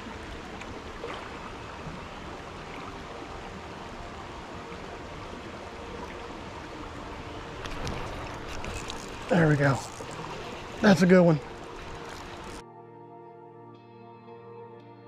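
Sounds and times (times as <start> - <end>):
creek water rushing over rocks: 0.0 - 12.6.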